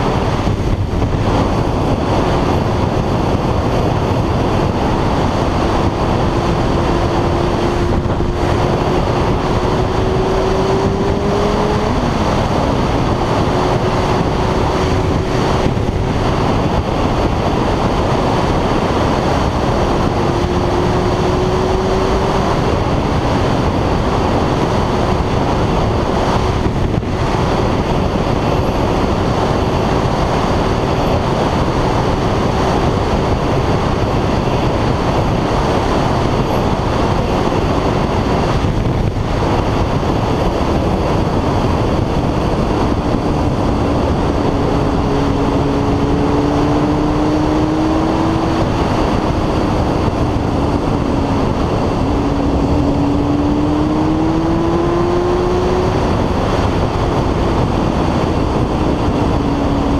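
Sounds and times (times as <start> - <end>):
motorcycle engine drone: 0.0 - 59.9
wind rushing over microphone: 0.0 - 59.9.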